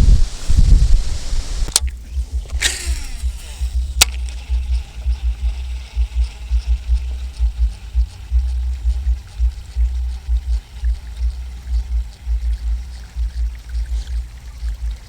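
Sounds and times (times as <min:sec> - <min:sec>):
wind rumble on microphone: 0:00.0 - 0:15.0
spinning reel spool whine: 0:00.3 - 0:15.0
fishing reel click: 0:01.7 - 0:15.0.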